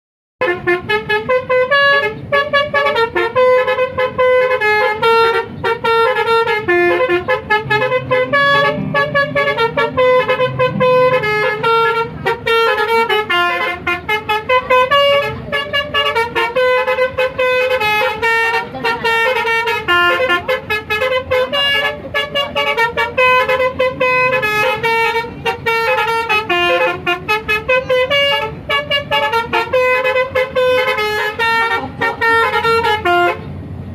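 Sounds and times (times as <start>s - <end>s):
melodic bus air horn: 0.4s - 33.7s.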